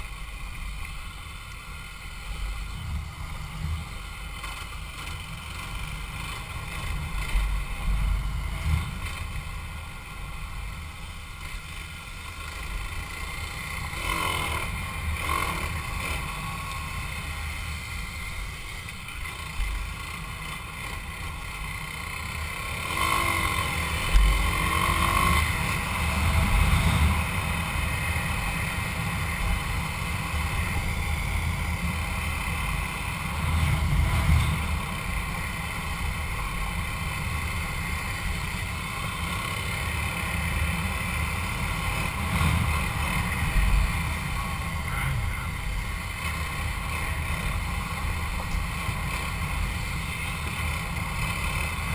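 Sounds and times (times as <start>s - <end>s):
motorcycle engine: 0.0s - 51.9s.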